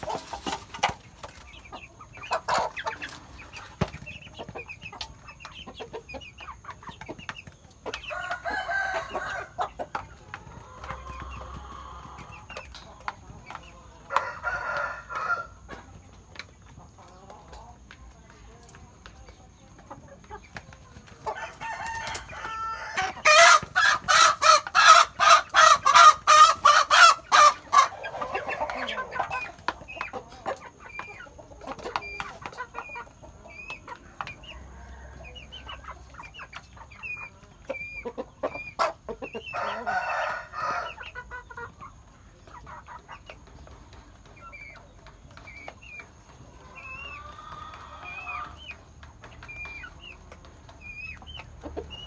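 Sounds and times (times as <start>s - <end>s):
chickens cackling: 0.0s - 52.0s.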